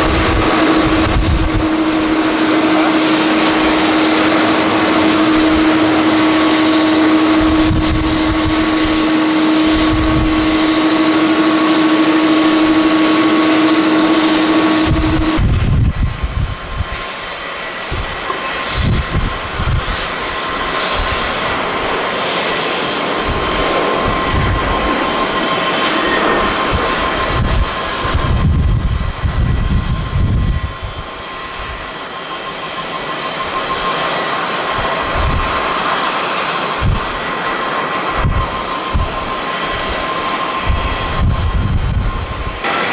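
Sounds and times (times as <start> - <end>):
jet engines roaring: 0.0 - 42.9
wind buffeting microphone: 0.0 - 42.9.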